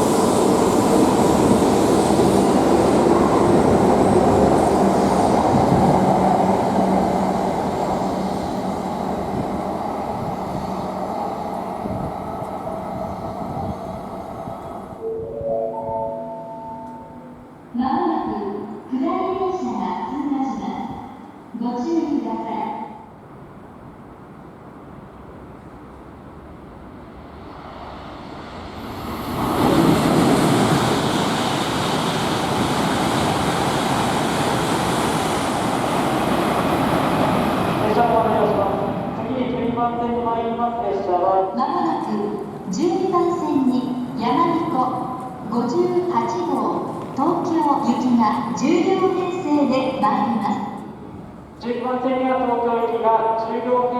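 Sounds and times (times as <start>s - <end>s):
train rumbling with low hum: 0.0s - 15.3s, 23.2s - 53.9s.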